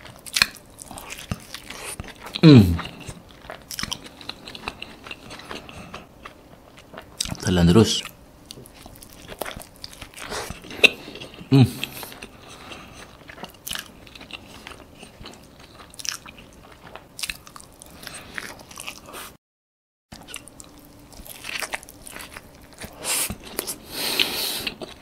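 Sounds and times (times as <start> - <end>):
person chewing toast: 0.0 - 7.4, 8.0 - 19.3, 20.2 - 25.0.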